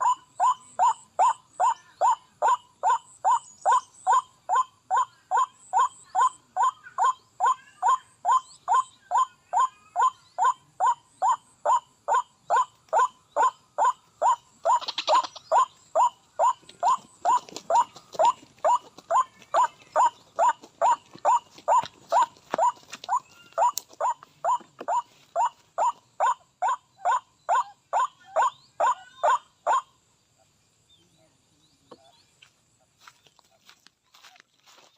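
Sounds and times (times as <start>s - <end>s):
repeated waterhen call: 0.0s - 29.9s.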